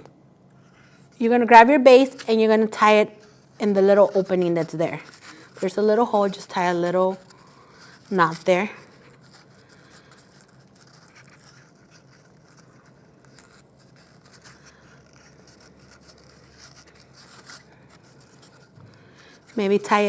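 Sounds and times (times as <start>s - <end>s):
yarn rustling and scratching: 1.9s - 20.0s.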